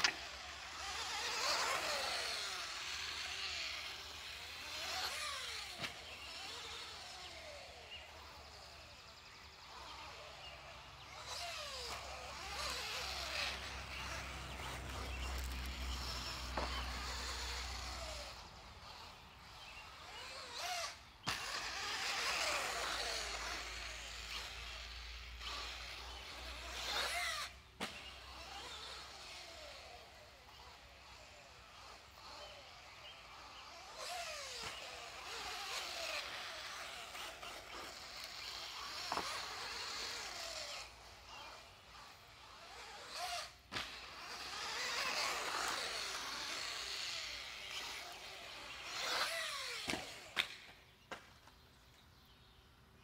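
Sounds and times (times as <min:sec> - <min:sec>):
tyres on dirt: 0:00.0 - 0:52.6
rc car motor whine: 0:00.0 - 0:53.0.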